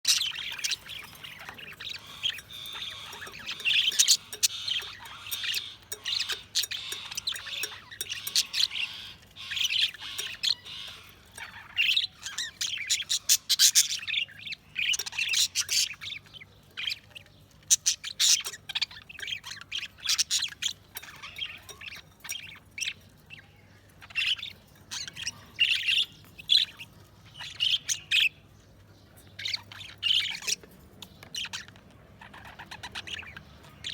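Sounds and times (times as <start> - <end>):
budgerigars chirping: 0.1 - 28.5, 29.4 - 33.9.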